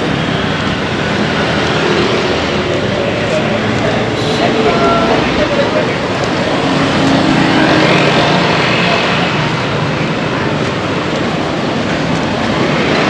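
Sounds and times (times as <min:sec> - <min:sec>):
passing vehicle engine and tyres: 0:00.0 - 0:13.0
street traffic noise: 0:00.0 - 0:13.0.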